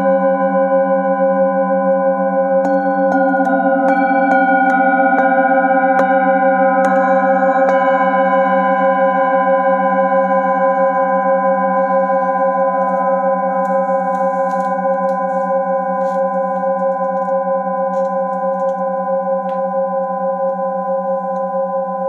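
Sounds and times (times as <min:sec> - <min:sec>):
singing bowls ringing: 0:00.0 - 0:22.0.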